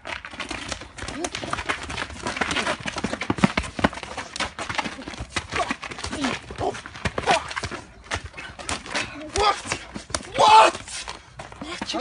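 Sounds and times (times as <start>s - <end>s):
slaps and thuds of blows: 0.0s - 12.0s.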